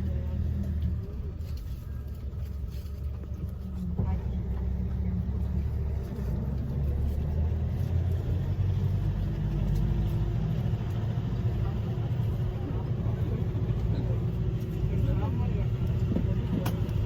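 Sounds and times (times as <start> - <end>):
road vehicle engine rumble: 0.0 - 17.0.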